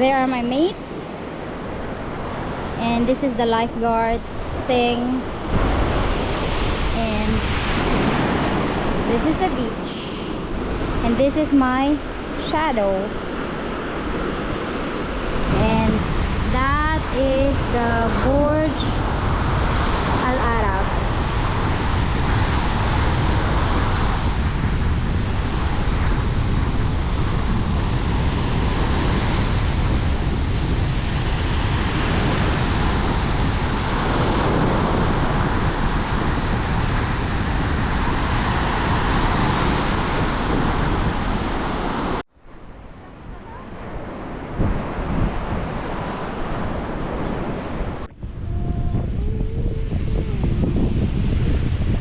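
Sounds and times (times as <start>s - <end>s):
surf washing on beach: 0.0s - 52.0s
wind buffeting microphone: 0.0s - 52.0s.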